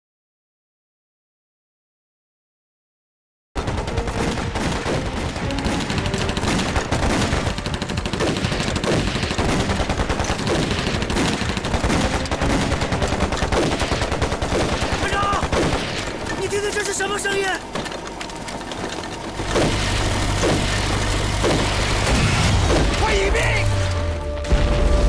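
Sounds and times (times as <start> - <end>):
heavy rapid gunfire: 3.6 - 25.0.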